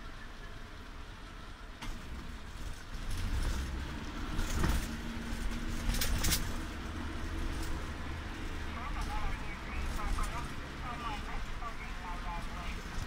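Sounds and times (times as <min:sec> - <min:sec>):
vehicle engine and tyre rumble: 0:00.0 - 0:13.0.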